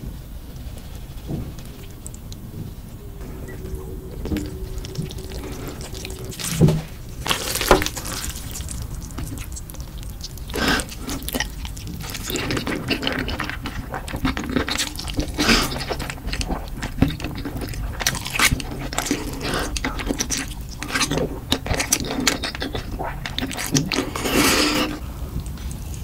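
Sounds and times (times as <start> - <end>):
chopsticks stirring noodles wetly: 0.9 - 25.0
slurping noodles: 3.0 - 25.1.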